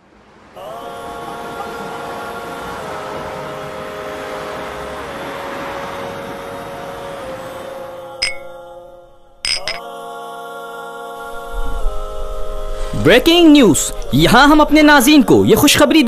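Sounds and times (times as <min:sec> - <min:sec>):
droning rushing noise with chord: 0:00.0 - 0:09.8, 0:11.1 - 0:16.0.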